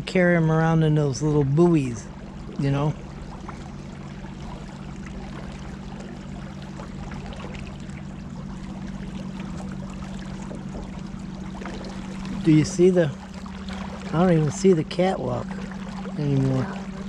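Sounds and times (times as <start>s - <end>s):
boat motor running: 0.0s - 17.0s
water splashing along hull: 0.0s - 17.0s.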